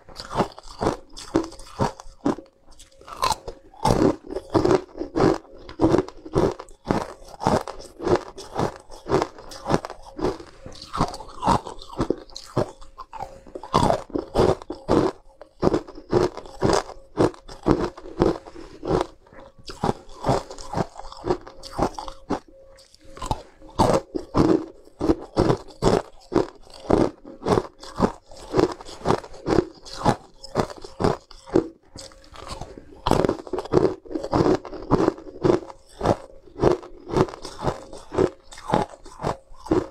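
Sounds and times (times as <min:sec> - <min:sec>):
ice cubes crunching: 0:00.2 - 0:39.9.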